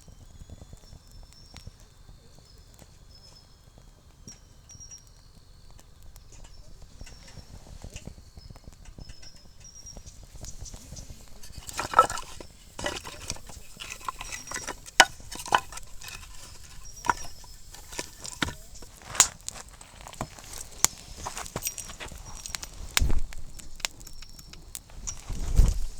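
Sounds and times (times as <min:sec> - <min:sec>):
campfire crackling and popping: 0:00.4 - 0:25.9.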